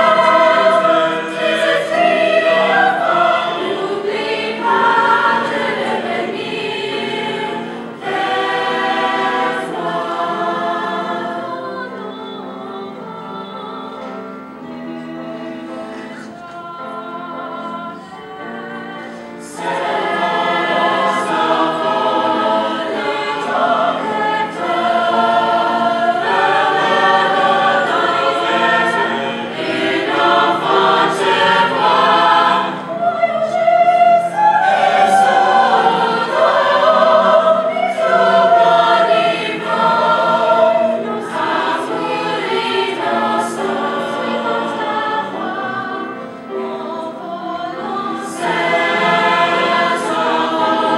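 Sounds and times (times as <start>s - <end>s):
vocal ensemble singing in harmony: 0.0s - 50.9s.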